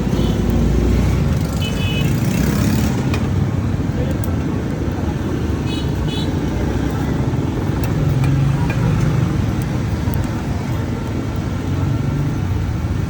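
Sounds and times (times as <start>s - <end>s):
roadside traffic rumble: 0.0s - 13.0s.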